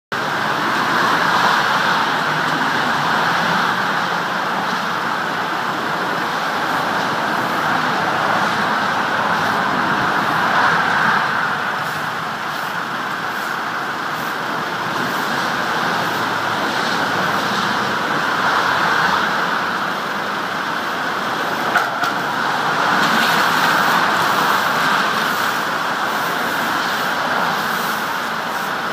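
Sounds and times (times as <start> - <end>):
motorway traffic passing at speed: 0.1 - 28.9.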